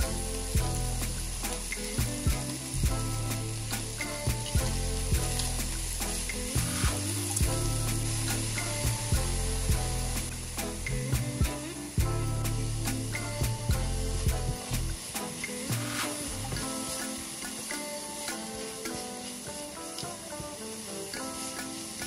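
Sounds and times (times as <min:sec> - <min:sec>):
food sizzling in frying pan: 0:00.0 - 0:22.0.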